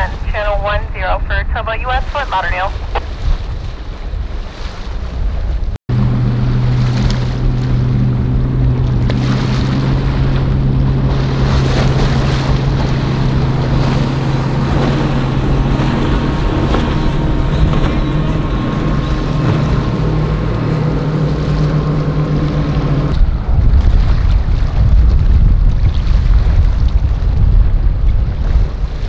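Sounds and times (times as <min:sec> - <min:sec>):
boat engine drone: 0:00.0 - 0:25.5, 0:26.5 - 0:29.0
waves on rough water: 0:00.0 - 0:29.0
wind buffeting microphone: 0:00.0 - 0:29.0.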